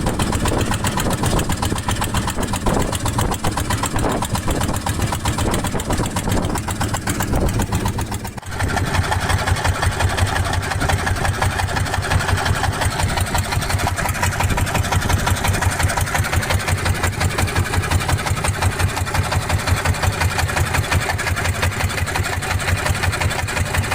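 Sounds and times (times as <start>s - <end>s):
boat engine running steadily: 0.0s - 23.9s.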